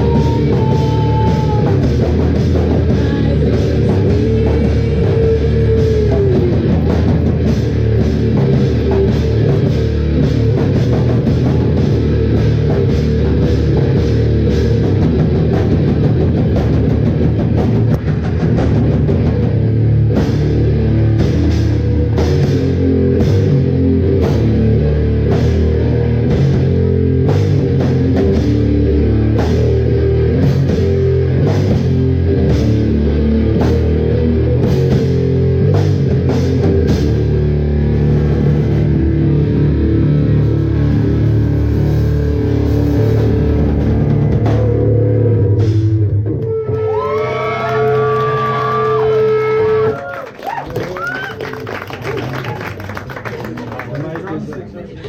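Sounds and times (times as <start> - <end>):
distorted electric guitar: 0.0 - 50.1
bass guitar: 0.0 - 54.3
drum kit pounding beat: 0.0 - 54.3.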